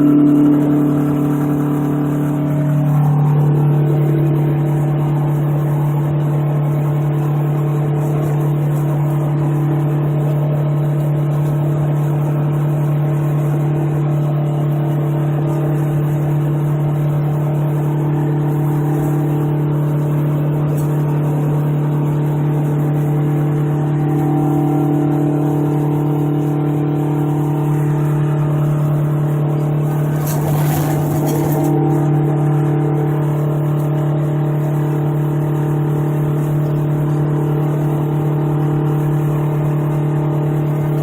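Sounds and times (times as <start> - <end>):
diesel truck engine drone: 0.0 - 41.0.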